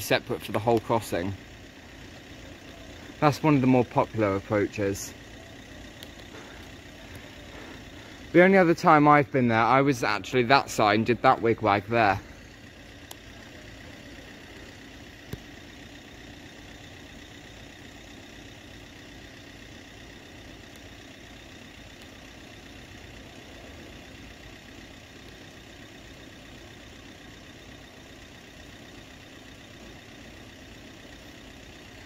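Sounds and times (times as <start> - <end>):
vehicle engines idling: 0.0 - 32.0.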